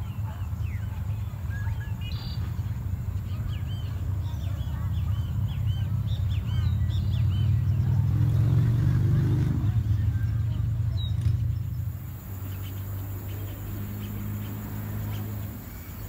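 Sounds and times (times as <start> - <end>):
low engine rumble: 0.0 - 16.0
small birds chirping: 0.0 - 16.0.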